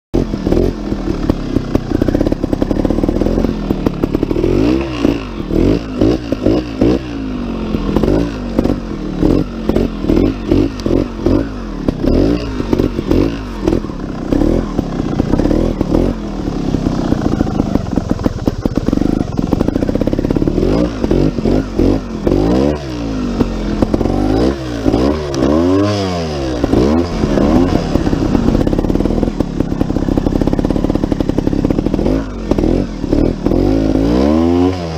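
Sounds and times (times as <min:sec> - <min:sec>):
two-stroke motorcycle engine revving: 0:00.2 - 0:34.9.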